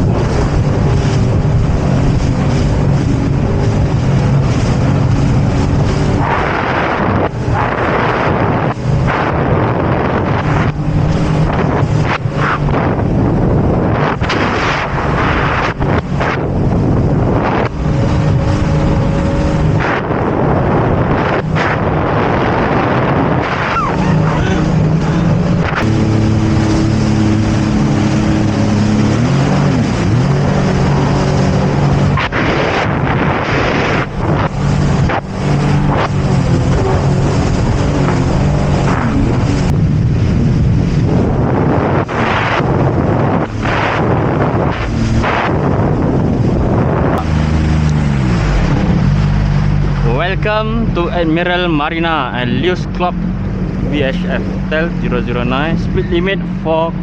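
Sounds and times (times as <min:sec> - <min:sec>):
jet ski engine running: 0:00.0 - 0:57.0
wind buffeting microphone: 0:00.0 - 0:57.0.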